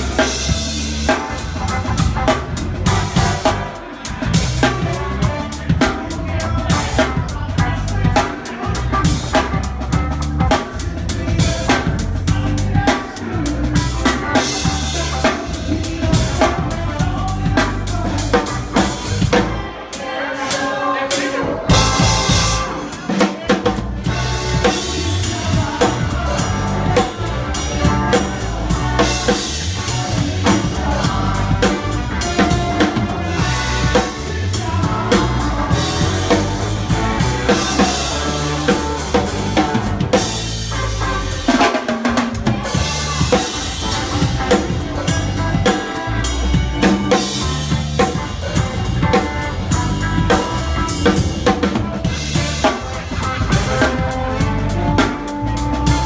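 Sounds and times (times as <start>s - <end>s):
bass drum and snare beat: 0.0s - 19.6s, 21.7s - 56.0s
live rock band playing: 0.0s - 56.0s.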